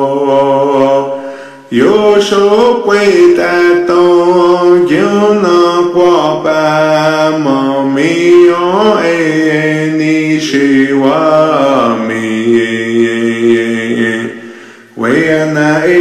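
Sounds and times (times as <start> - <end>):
unaccompanied chanted prayer song: 0.0 - 16.0.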